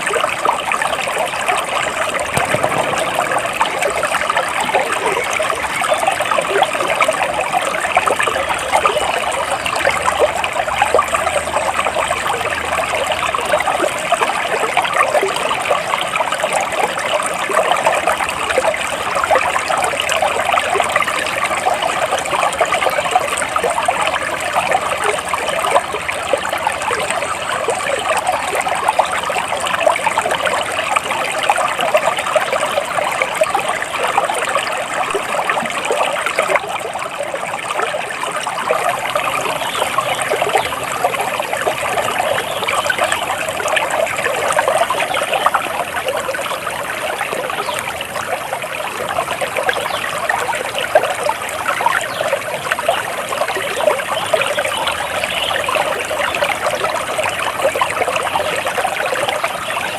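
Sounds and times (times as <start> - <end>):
water flowing and trickling: 0.0 - 59.9.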